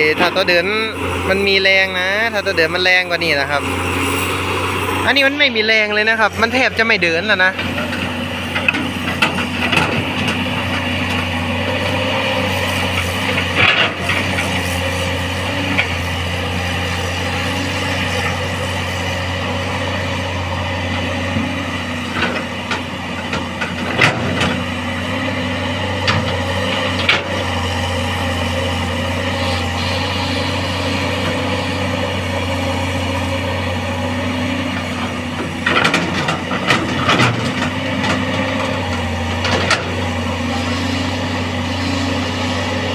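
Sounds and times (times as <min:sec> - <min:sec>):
excavator diesel engine straining: 0:00.0 - 0:42.9.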